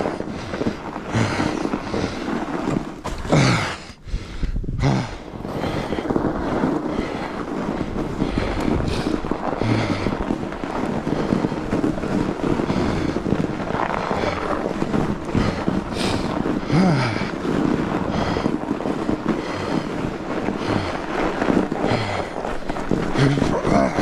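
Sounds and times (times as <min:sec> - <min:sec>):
bike tyres rumbling on snow: 0:00.0 - 0:24.0
wind buffeting microphone: 0:00.0 - 0:24.0.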